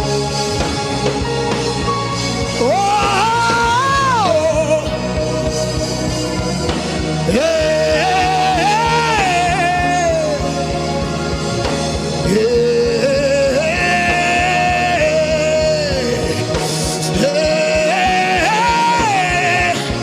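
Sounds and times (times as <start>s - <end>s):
sliding melody line: 0.0s - 20.0s
steady low beat: 0.0s - 20.0s.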